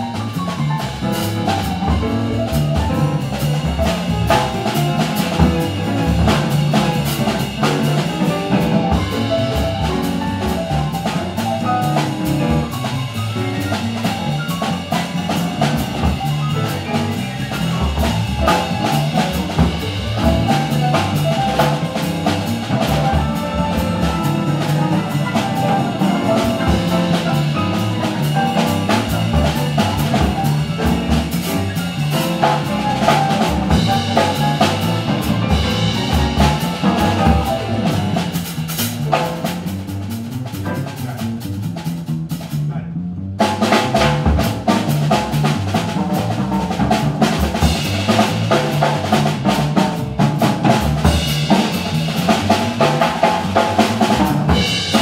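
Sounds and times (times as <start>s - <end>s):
grand piano: 0.0s - 42.6s, 43.4s - 55.0s
drum kit with cymbal hits: 0.0s - 55.0s
upright bass: 0.0s - 55.0s.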